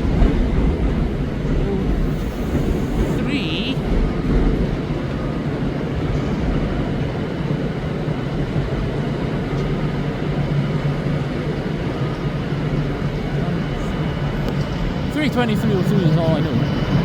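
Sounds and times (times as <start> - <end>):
faint train whine: 0.0 - 17.0
train low rumble: 0.0 - 17.0.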